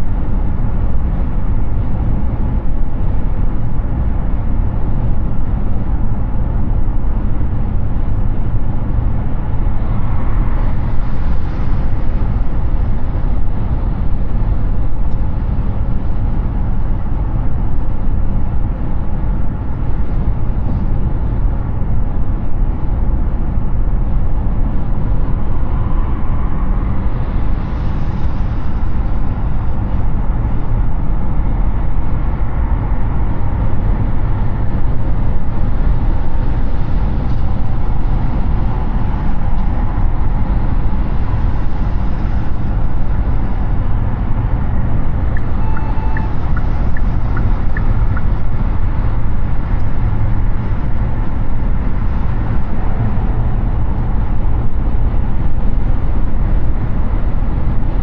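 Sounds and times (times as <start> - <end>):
road and tyre rumble: 0.0 - 58.0
wind noise: 0.0 - 58.0.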